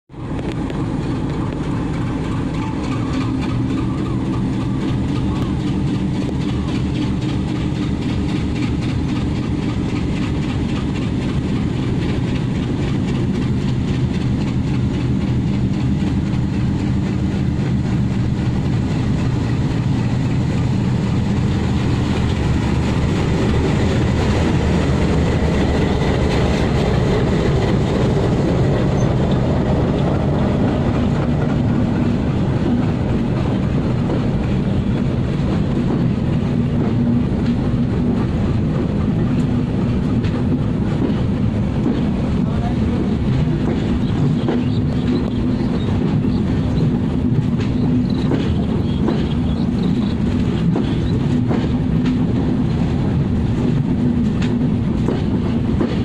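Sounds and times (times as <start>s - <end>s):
diesel locomotive running: 0.1s - 56.0s
train coaches rolling by: 0.1s - 56.0s.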